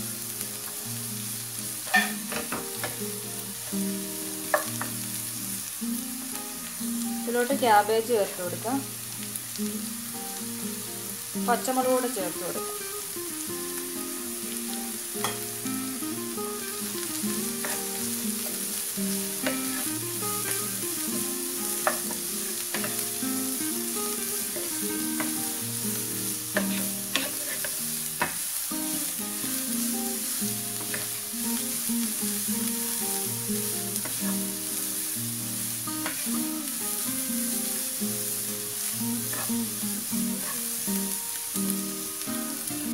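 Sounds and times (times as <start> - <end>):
vegetables sizzling in a pan: 0.0 - 42.9.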